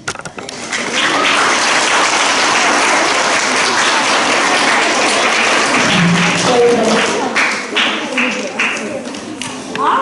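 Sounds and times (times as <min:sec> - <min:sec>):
audience applauding: 0:00.5 - 0:09.1.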